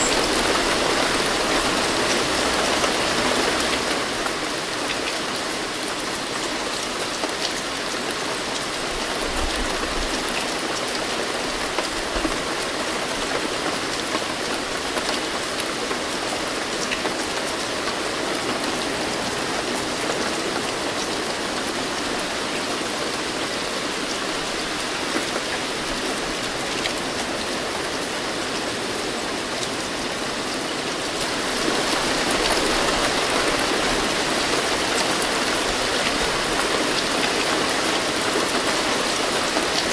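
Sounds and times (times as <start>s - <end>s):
rain falling: 0.0s - 39.9s
raindrops pattering on a surface: 0.0s - 39.9s.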